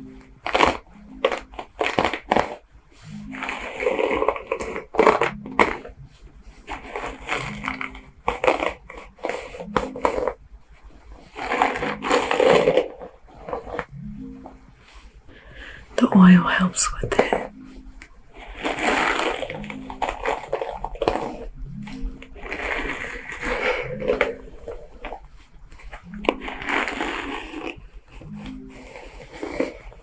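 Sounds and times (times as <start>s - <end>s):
hairbrush raked through hair: 0.1s - 15.2s, 17.0s - 30.0s.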